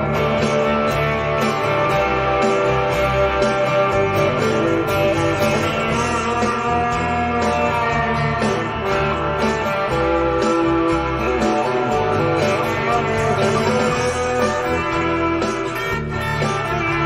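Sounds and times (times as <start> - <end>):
guitar-led rock-blues music: 0.0 - 17.0.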